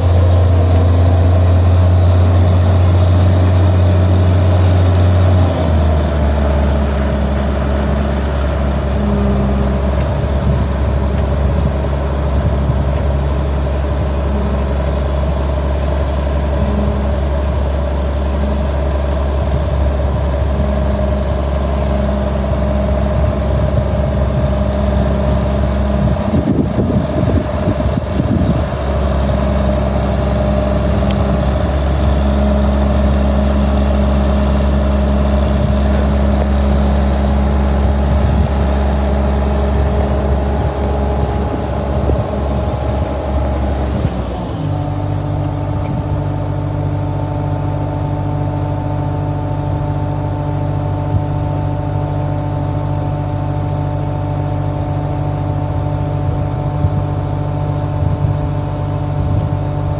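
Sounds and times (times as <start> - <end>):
combine harvester engine whining: 0.0 - 59.9.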